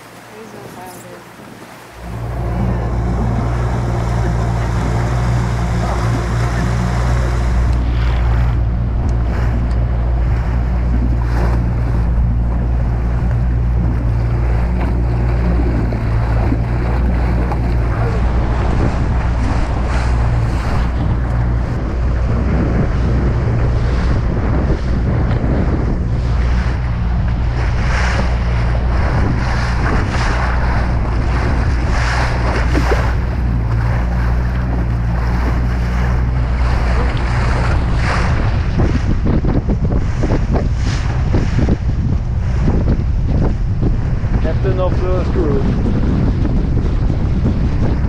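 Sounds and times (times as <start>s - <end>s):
motorboat engine humming: 0.0s - 48.0s
water rushing along hull: 0.0s - 48.0s
wind buffeting microphone: 0.0s - 48.0s.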